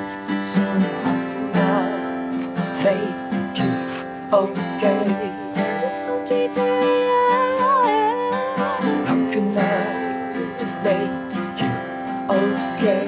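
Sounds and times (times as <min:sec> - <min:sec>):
acoustic guitar strumming: 0:00.0 - 0:13.0
held melody line: 0:00.0 - 0:13.0.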